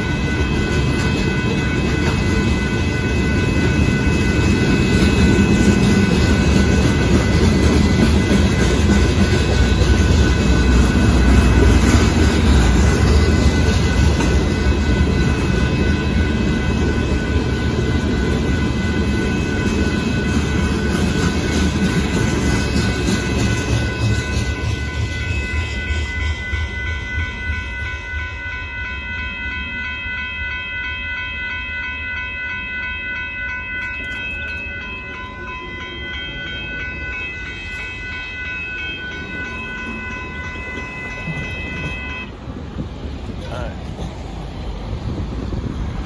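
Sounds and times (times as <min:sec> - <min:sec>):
crossing bell ringing: 0:00.0 - 0:46.0
freight train rumbling and clattering: 0:00.0 - 0:46.0.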